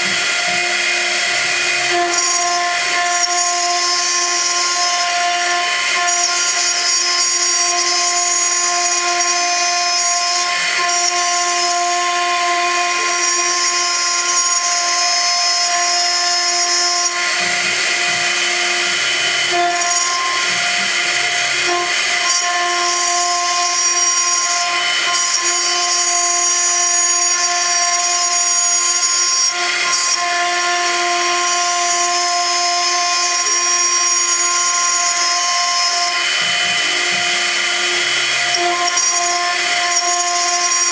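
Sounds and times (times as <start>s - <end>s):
milling machine whine: 0.0s - 40.9s.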